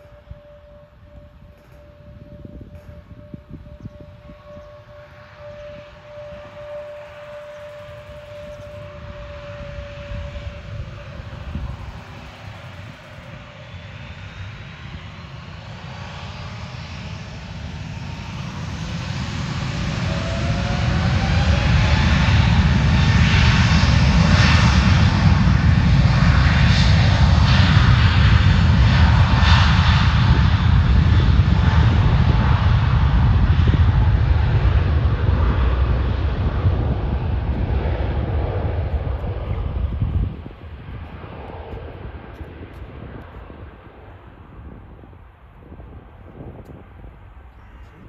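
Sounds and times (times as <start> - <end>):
jet engines spooling up: 0.0 - 44.8
loud steady jet roar: 0.0 - 48.0.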